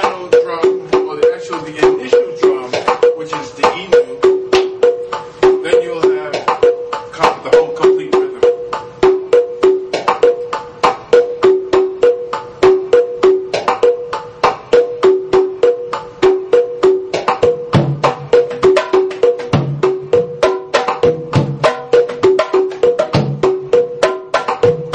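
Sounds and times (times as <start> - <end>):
hand drums in steady rhythm: 0.0 - 24.9.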